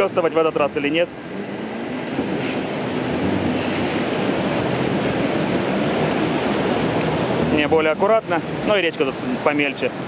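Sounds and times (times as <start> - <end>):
rushing river water: 0.0 - 10.0.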